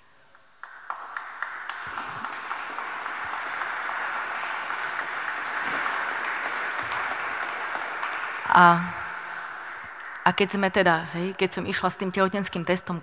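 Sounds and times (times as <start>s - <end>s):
audience applauding: 0.4s - 10.9s.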